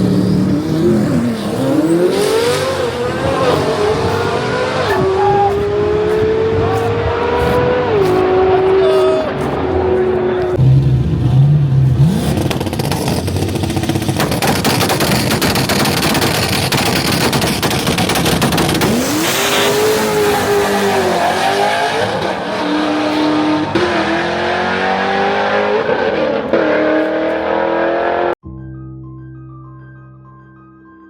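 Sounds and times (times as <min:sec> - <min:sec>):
car engine at high revs: 0:00.0 - 0:28.4.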